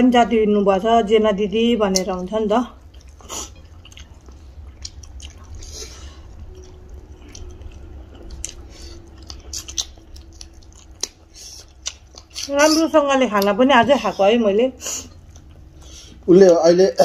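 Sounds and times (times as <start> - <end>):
faint steady hum: 0.0 - 17.0
chewing food: 1.7 - 14.2, 14.9 - 16.6.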